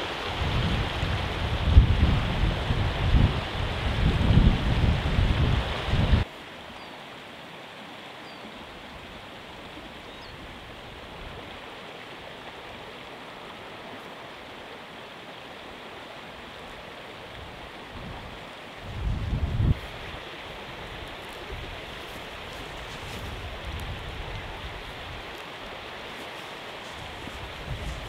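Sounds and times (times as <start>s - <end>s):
stream rushing over rocks: 0.0s - 28.0s.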